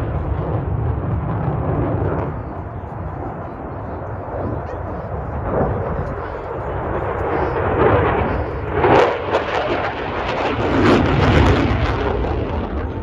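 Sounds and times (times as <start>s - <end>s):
aircraft engine roar: 0.0s - 13.0s.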